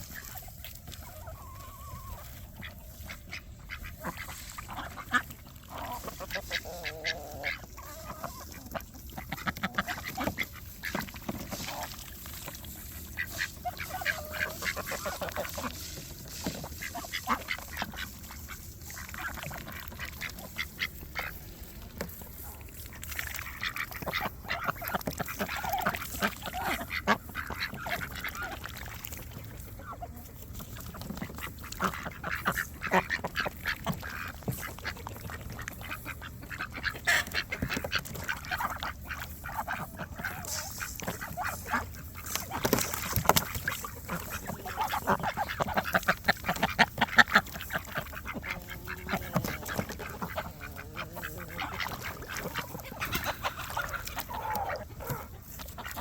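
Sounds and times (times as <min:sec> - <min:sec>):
ducks quacking: 0:00.0 - 0:56.0.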